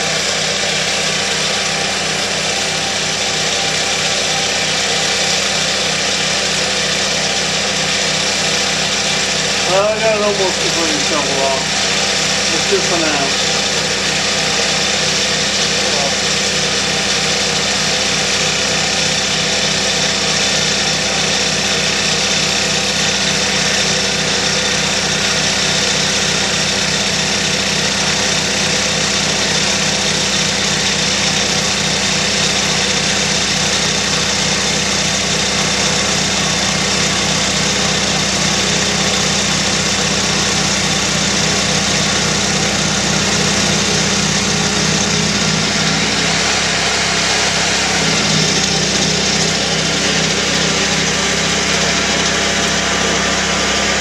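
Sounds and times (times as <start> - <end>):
small tractor engine running: 0.0 - 54.0.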